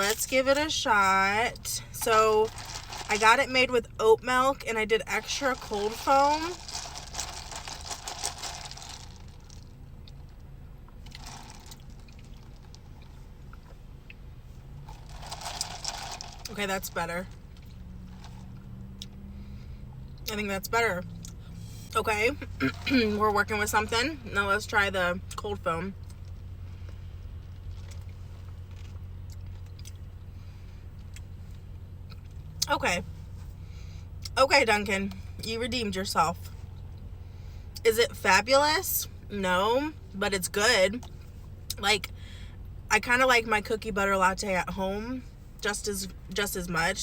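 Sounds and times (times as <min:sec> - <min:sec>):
car engine running: 0:00.0 - 0:47.0
low steady hum: 0:00.0 - 0:47.0.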